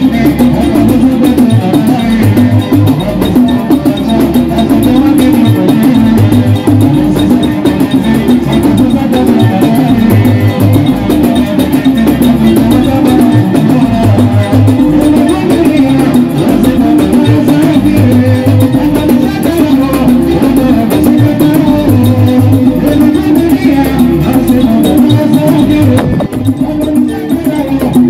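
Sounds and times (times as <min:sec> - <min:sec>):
live band playing dance music: 0:00.0 - 0:28.0.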